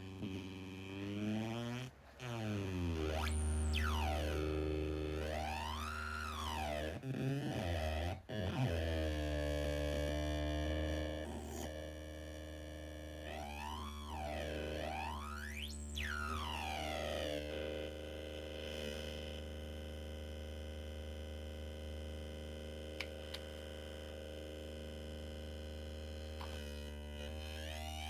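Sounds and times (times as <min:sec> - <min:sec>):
buzzy electronic synth drone: 0:00.0 - 0:19.1, 0:23.2 - 0:28.0.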